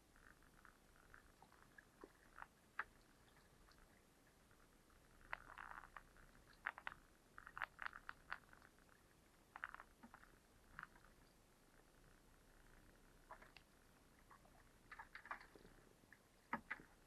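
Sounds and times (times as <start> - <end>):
faint clicks and ticks: 0.0 - 17.0
low background hiss: 0.0 - 17.0.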